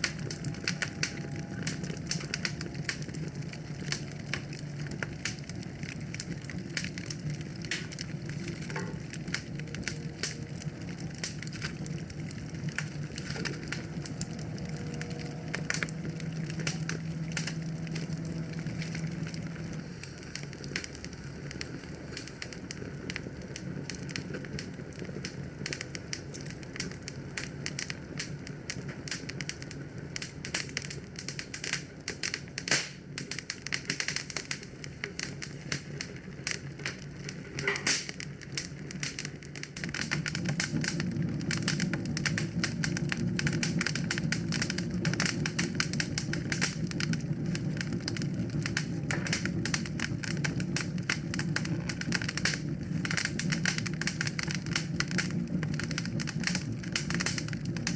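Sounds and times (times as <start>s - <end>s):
low steady rumble: 0.0s - 57.9s
wood fire crackling: 0.0s - 57.9s.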